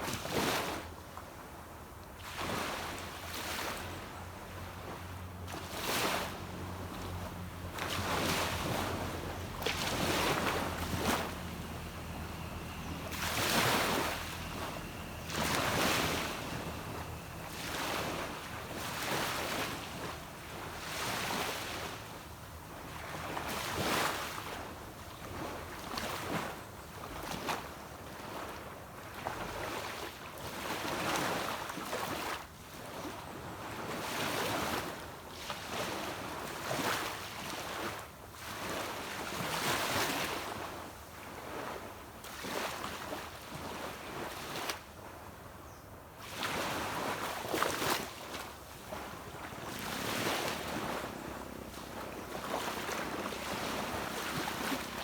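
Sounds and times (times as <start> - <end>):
sea waves washing up a beach: 0.0 - 45.6, 46.2 - 55.0.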